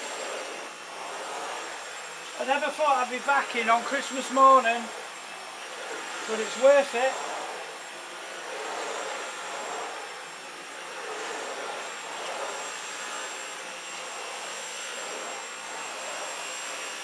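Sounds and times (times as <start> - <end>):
cordless vacuum running: 0.0 - 17.0.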